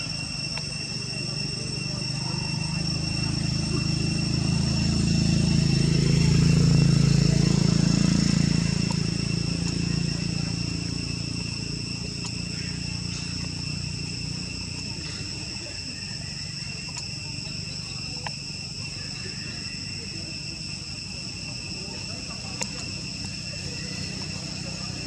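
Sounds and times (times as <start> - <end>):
insects buzzing chorus: 0.0 - 25.0.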